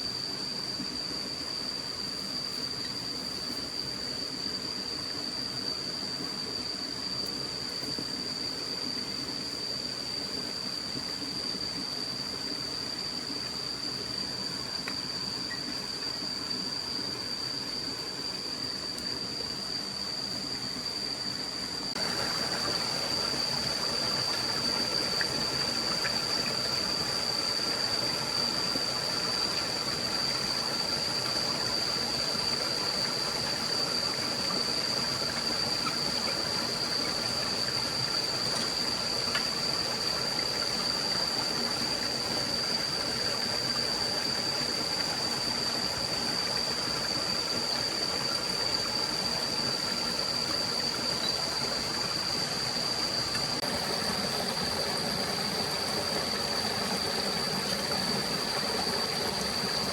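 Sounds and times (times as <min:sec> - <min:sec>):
running water hiss: 0:00.0 - 0:59.9
steady high-pitched whine: 0:00.0 - 0:59.9.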